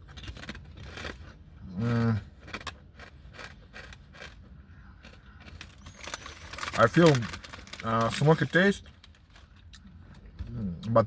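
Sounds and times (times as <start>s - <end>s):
potato chip crunching: 0.0s - 9.9s.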